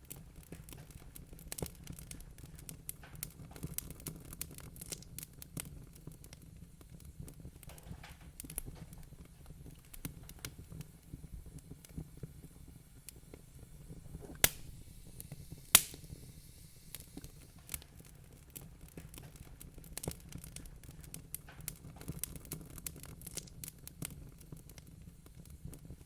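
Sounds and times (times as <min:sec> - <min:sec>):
loud fire pops: 0:00.0 - 0:26.0
wood fire crackling: 0:00.0 - 0:26.0.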